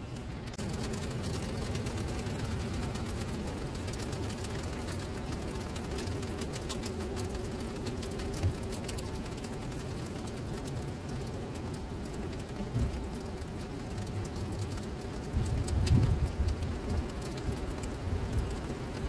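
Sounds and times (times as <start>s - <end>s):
rain splashing into standing water: 0.1s - 19.0s.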